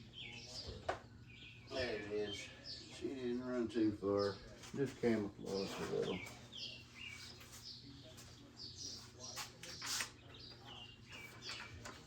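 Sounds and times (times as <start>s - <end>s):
faint songbird chirping: 0.0s - 12.0s.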